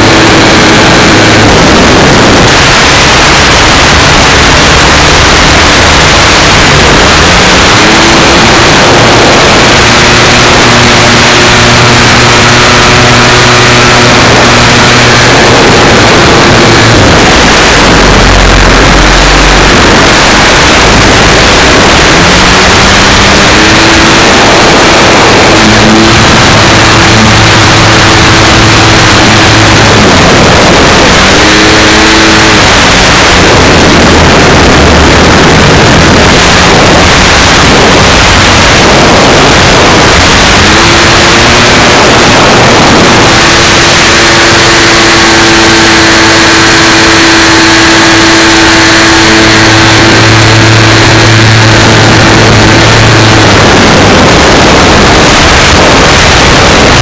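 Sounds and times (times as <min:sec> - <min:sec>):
model plane engine running: 0:00.0 - 0:57.0
wind rush: 0:00.0 - 0:57.0.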